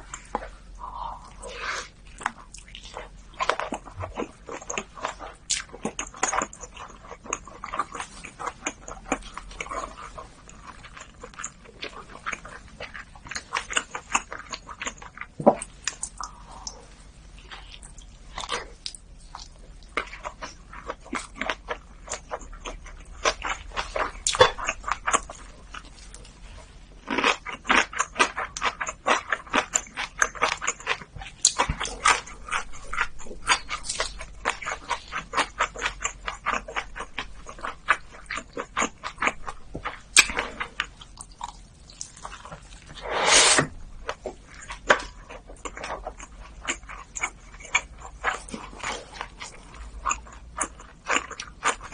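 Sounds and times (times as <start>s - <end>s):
wet chewing mouth sounds: 0.0s - 51.9s.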